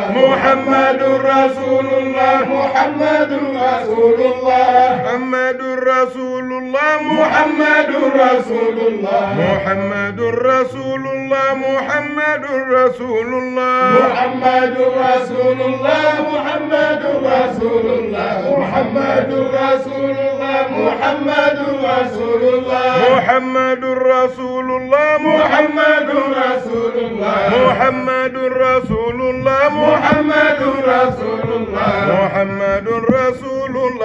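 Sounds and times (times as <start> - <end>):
voices chanting: 0.0 - 34.0.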